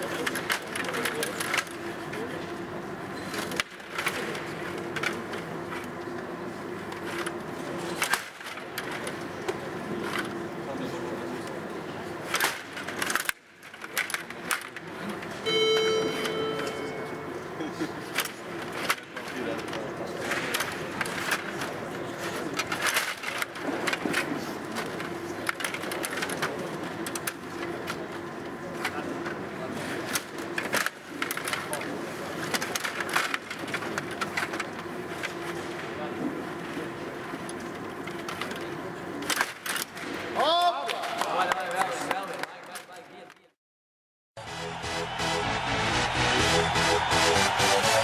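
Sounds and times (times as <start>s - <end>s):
steady hum: 0.0s - 40.4s.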